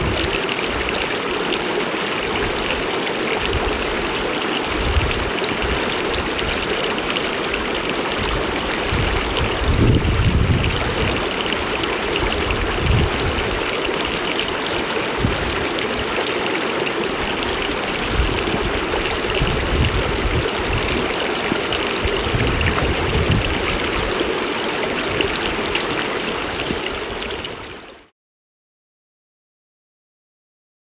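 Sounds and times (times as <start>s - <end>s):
stream rushing over stones: 0.0s - 28.1s.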